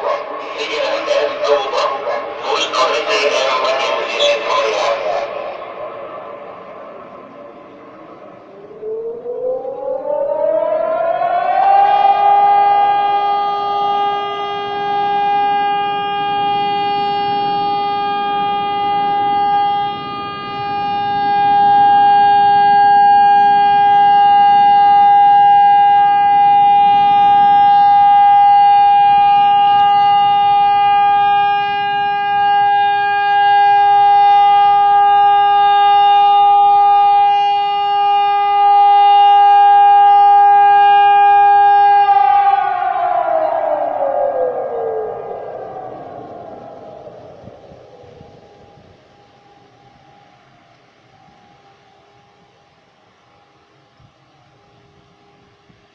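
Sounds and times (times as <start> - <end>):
air raid siren steady tone: 0.0 - 55.9.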